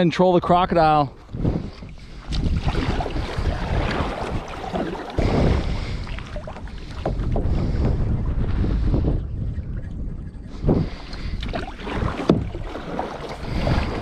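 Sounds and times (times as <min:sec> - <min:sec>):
wind buffeting microphone: 0:00.4 - 0:14.0
water splashing from kayak paddling: 0:00.5 - 0:14.0.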